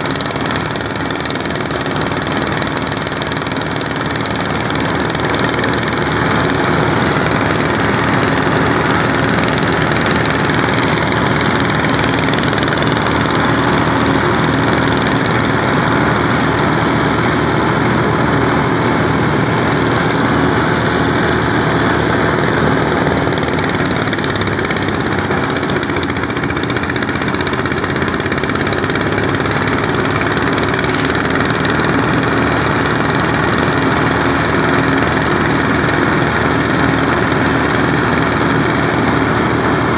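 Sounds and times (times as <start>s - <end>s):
engine-driven thresher running: 0.0s - 39.9s.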